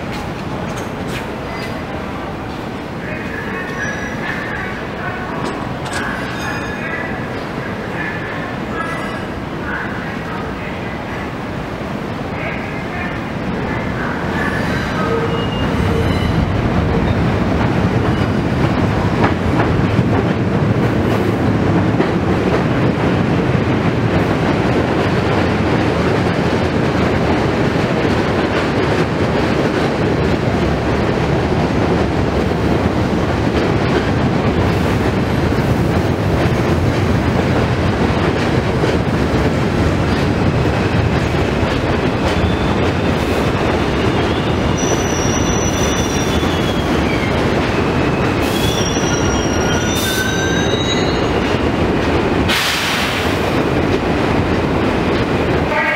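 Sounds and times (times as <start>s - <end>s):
subway train wheels on rails: 0.0s - 55.9s.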